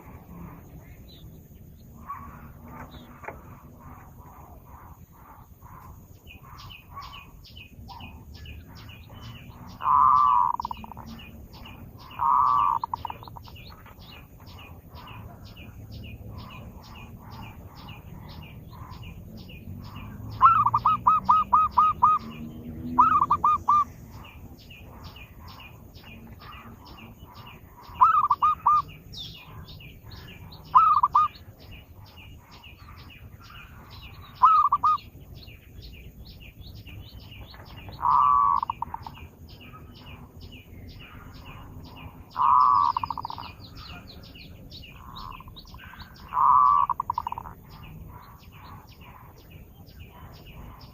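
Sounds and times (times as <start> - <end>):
dove cooing: 2.0 - 35.2, 37.2 - 40.2, 41.0 - 50.9.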